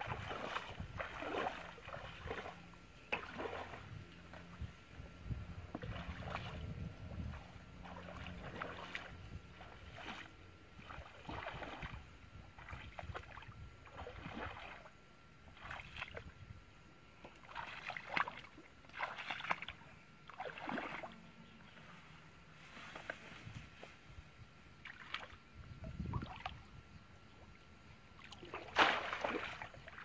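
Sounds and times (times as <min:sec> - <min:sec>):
legs wading through water: 0:00.0 - 0:16.5, 0:17.1 - 0:24.1, 0:24.7 - 0:30.0.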